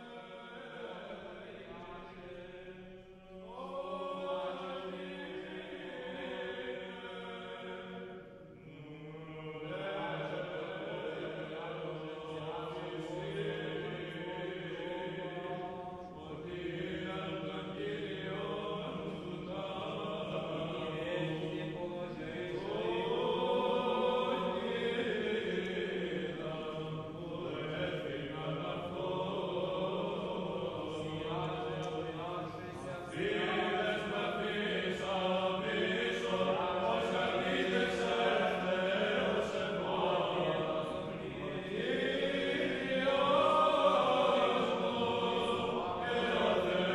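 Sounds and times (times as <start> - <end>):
voices singing a chant: 0.0 - 46.9.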